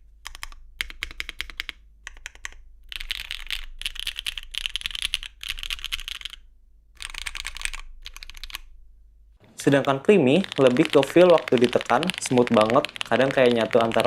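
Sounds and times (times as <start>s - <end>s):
mechanical keyboard typing: 0.2s - 6.4s, 7.0s - 8.7s, 9.5s - 14.0s.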